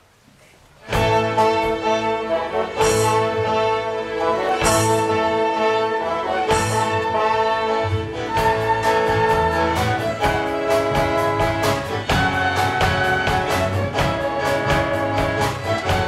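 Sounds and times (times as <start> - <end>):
orchestra of strings and woodwinds: 0.8 - 16.0.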